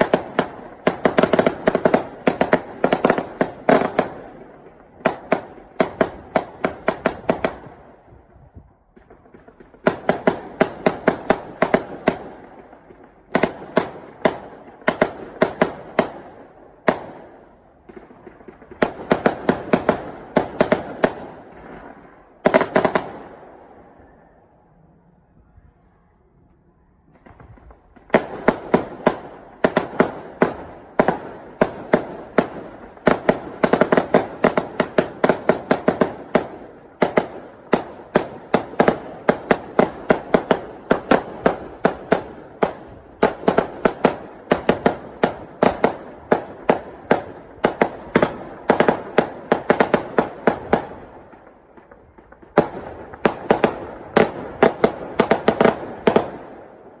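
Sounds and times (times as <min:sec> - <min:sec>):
fireworks bangs: 0:00.0 - 0:24.6, 0:27.0 - 0:57.0.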